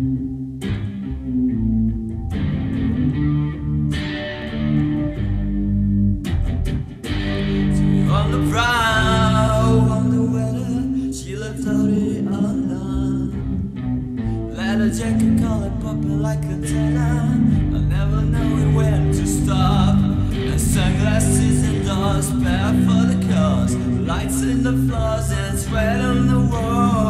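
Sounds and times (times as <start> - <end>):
bass: 0.0 - 27.0
electric guitar chords: 0.0 - 27.0
wavering sliding guitar lead: 0.0 - 27.0.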